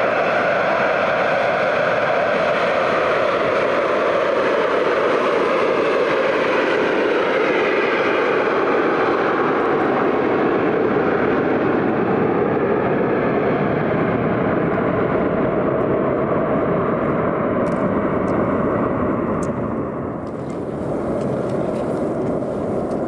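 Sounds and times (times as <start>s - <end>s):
aircraft engine noise: 0.0s - 23.0s.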